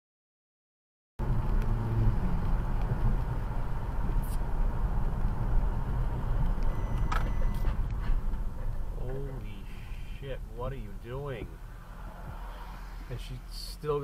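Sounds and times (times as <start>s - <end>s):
car engine and road noise: 1.2s - 14.0s.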